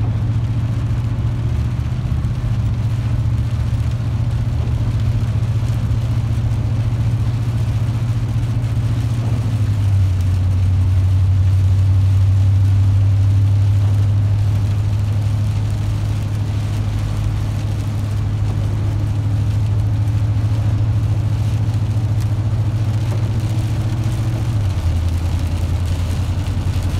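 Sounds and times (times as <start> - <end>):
car engine and tyre drone: 0.0 - 26.9.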